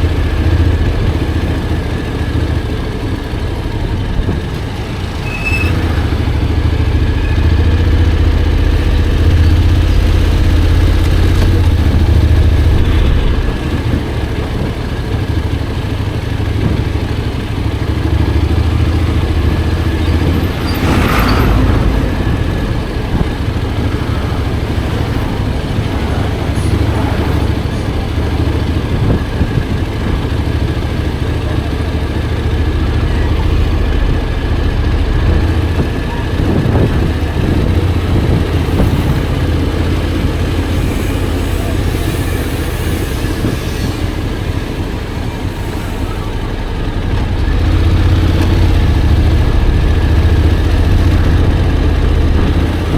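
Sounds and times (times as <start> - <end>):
motorcycle engine drone: 0.0 - 52.9
road rumble: 0.0 - 52.9.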